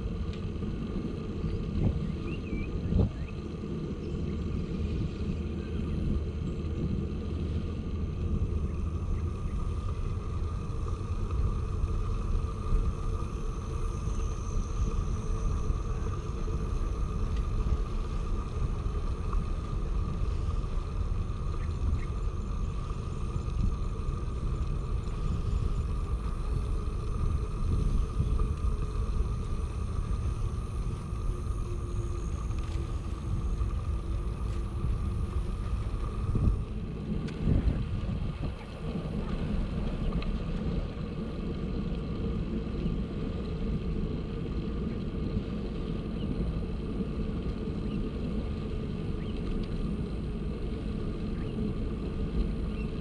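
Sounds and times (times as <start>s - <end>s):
bicycle tyres rolling: 0.0s - 53.0s
faint steady hum: 0.0s - 53.0s
wind buffeting microphone: 0.0s - 53.0s.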